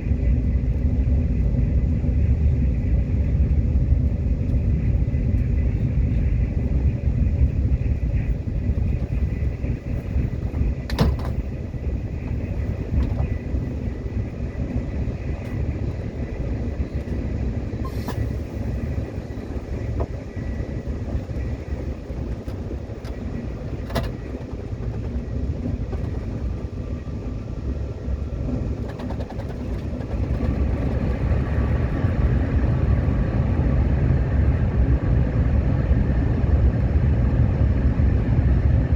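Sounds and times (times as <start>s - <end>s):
subway train rumbling on track: 0.0s - 38.9s.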